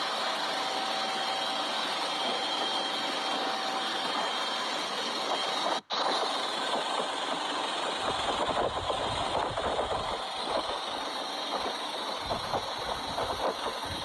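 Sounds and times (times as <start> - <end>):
engine noise with high whine: 0.0 - 14.0.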